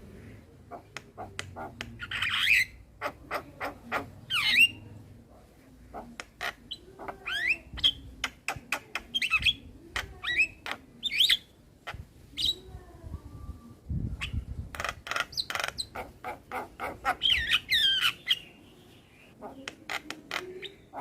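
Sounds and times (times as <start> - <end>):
myna bird singing: 0.7 - 5.0, 5.9 - 12.8, 14.1 - 21.0.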